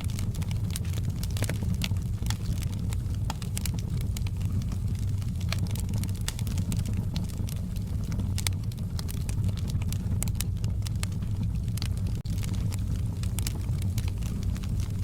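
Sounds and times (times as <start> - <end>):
low rumble of flames: 0.0 - 15.0
sharp pops from fire: 0.0 - 15.0
wood fire crackling: 0.0 - 15.0.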